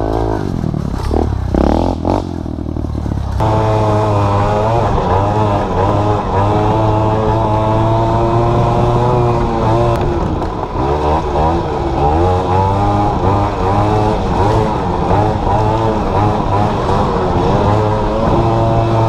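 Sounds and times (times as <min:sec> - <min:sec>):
quad engine revving: 0:00.0 - 0:19.0.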